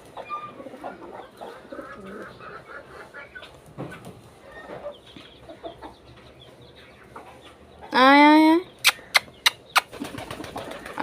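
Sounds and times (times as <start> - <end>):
pigeons calling: 0.0 - 8.0, 8.6 - 11.0.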